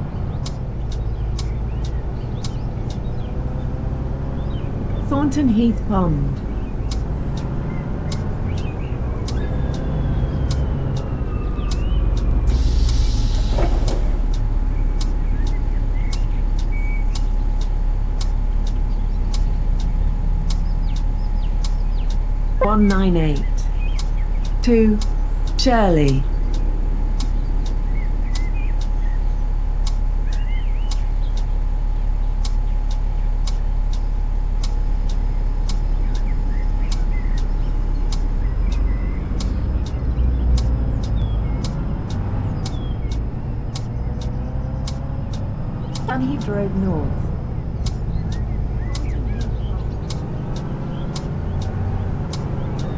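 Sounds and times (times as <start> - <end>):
bus engine droning: 0.0 - 52.9
sharp ticking: 5.0 - 13.4, 14.3 - 29.0, 29.8 - 31.5, 32.4 - 46.8, 47.4 - 52.9.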